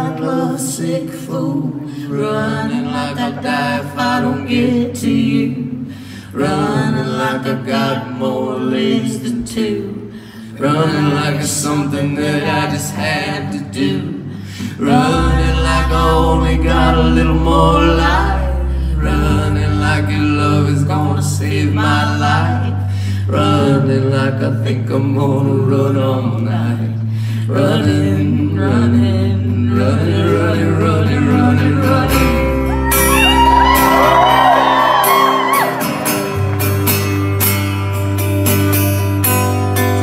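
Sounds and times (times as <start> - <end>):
voices singing: 0.0 - 36.7
acoustic guitar: 0.0 - 40.0.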